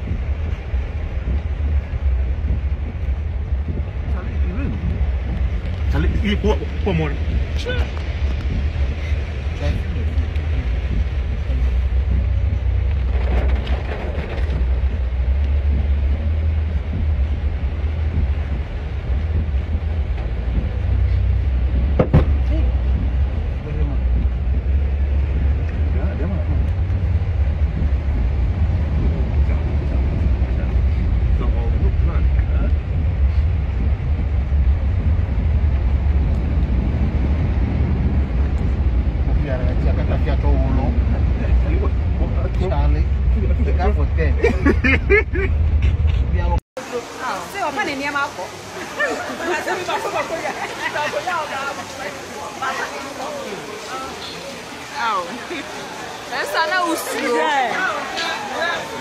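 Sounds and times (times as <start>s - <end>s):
floodwater rushing: 0.0s - 59.0s
vehicle rumble: 0.0s - 59.0s
water and road noise: 0.0s - 59.0s.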